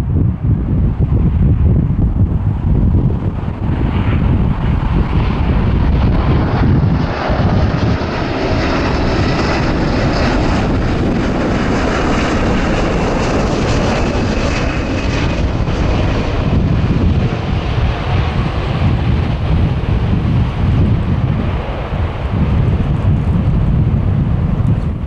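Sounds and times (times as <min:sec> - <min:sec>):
high fan whine: 0:00.0 - 0:25.0
jet engine rumble: 0:00.0 - 0:25.0.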